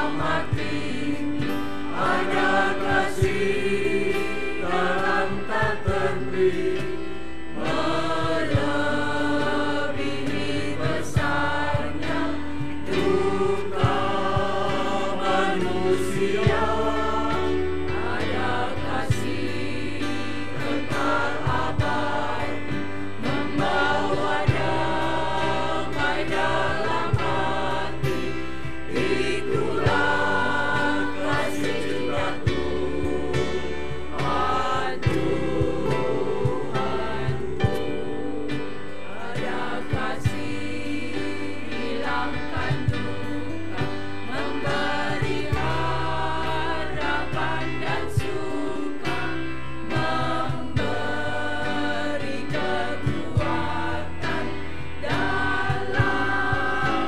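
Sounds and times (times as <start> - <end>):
church choir singing a hymn: 0.0 - 57.0.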